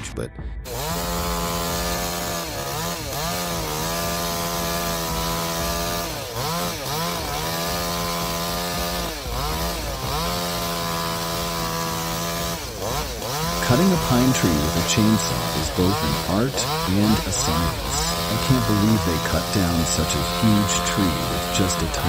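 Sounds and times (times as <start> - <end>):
chainsaw cutting at high revs: 0.6 - 22.0.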